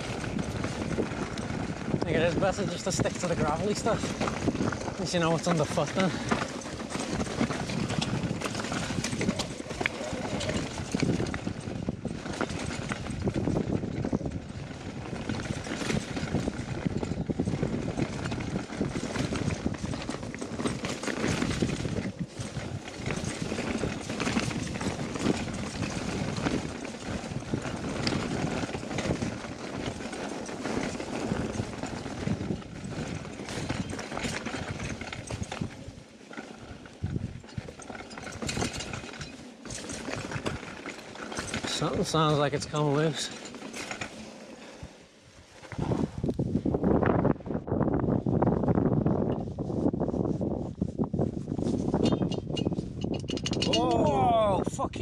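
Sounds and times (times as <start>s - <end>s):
tyres rolling over loose stones: 0.0s - 46.2s, 51.6s - 54.6s
bike rattling over rocky trail: 0.0s - 55.0s.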